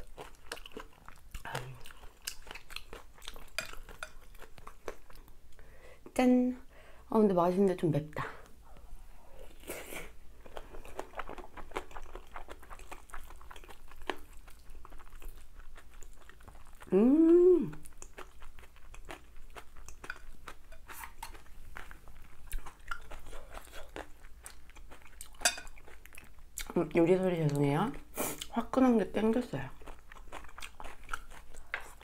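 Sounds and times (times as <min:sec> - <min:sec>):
chewing and mouth noises: 0:00.0 - 0:05.6, 0:10.4 - 0:28.6, 0:29.6 - 0:32.0.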